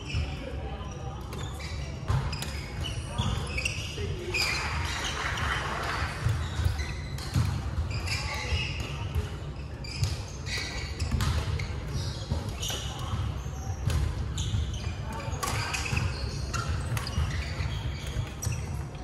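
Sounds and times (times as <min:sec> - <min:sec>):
sneakers squeaking on wooden floor: 0:00.0 - 0:05.4, 0:06.2 - 0:19.0.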